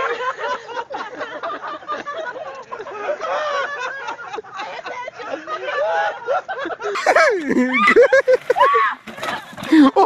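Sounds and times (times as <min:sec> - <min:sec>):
people laughing and shouting: 0:00.0 - 0:10.0.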